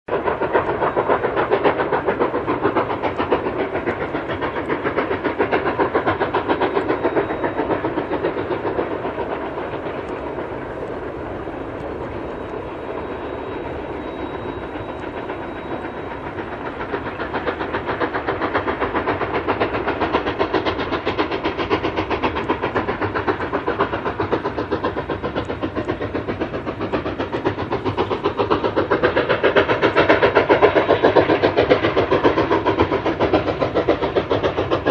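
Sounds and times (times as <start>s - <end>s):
steam train chugging: 0.1s - 34.9s.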